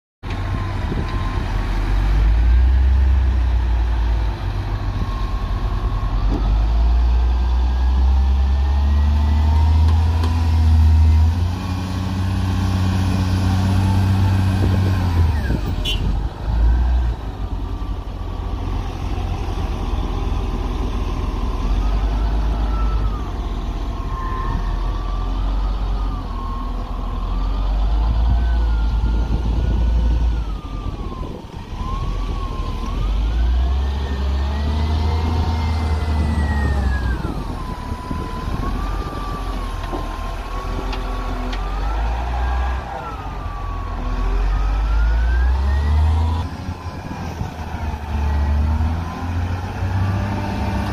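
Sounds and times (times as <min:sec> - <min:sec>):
diesel engine rumble: 0:00.2 - 0:50.9
engine whine: 0:00.2 - 0:50.9.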